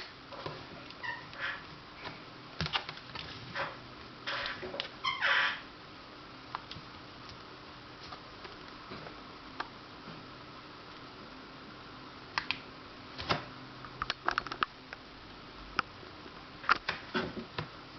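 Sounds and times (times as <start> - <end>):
steady background hiss: 0.0 - 17.9.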